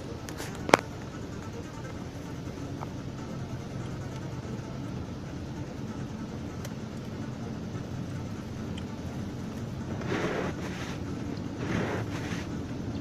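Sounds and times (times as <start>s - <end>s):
car driving drone: 0.0s - 13.0s
road noise: 0.0s - 13.0s.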